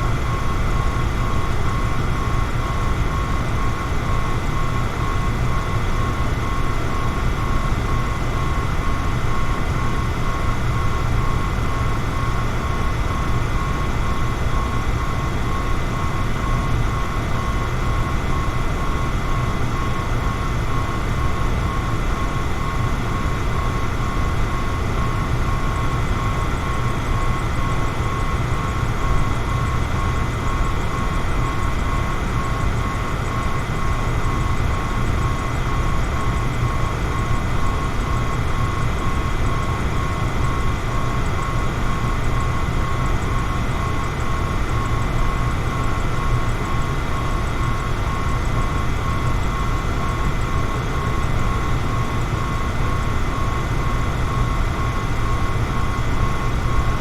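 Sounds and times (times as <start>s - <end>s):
electric fan running: 0.0s - 57.0s
high pulsing whine: 0.0s - 57.0s.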